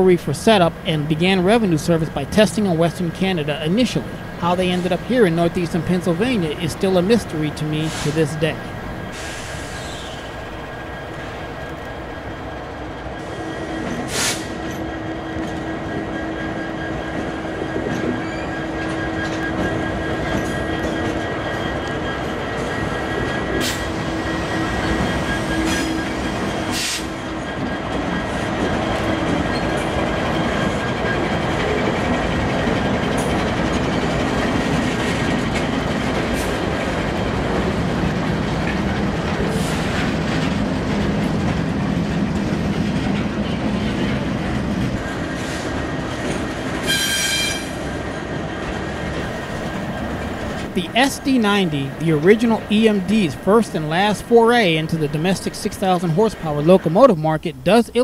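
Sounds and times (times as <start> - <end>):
train wheels clacking on track: 0.0 - 57.1
diesel locomotive hum and whine: 0.0 - 58.0.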